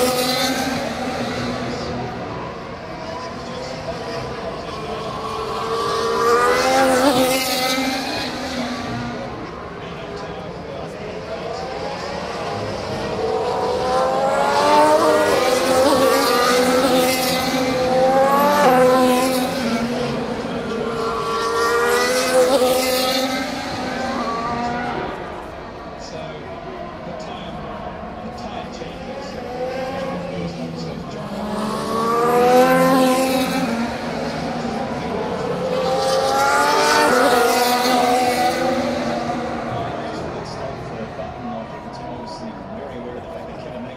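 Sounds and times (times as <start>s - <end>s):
racing car engines passing: 0.0s - 43.9s.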